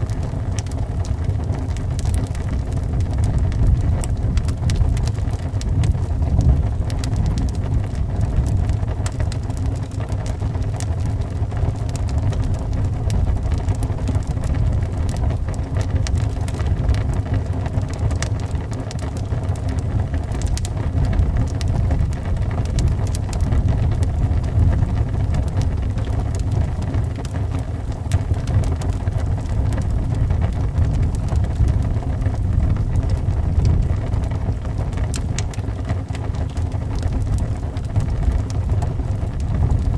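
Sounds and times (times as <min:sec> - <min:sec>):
low wind rumble: 0:00.0 - 0:39.9
wood fire crackling and popping: 0:00.0 - 0:39.9.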